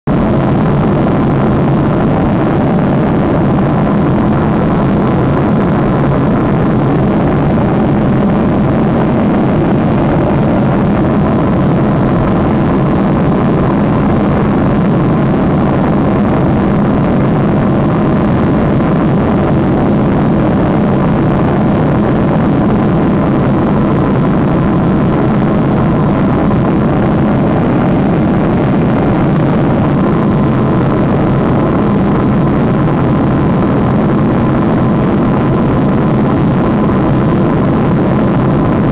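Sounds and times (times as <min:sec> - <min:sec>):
airliner cabin engine drone: 0:00.1 - 0:38.9.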